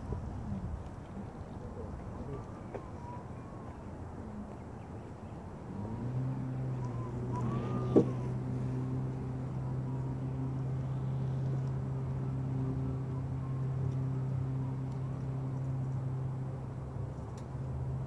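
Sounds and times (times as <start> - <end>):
faint whines rising and falling: 0.0 - 18.0.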